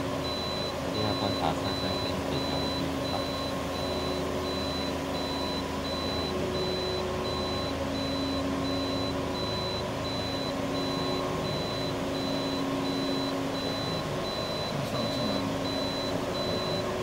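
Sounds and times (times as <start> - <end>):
car engine humming: 0.0 - 17.0
electronic warning beeps: 0.0 - 17.0.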